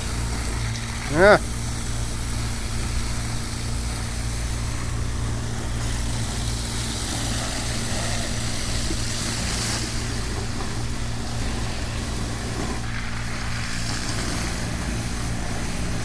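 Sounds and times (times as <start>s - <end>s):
pressure washer motor hum: 0.0s - 16.0s
water jet hissing: 0.0s - 16.0s.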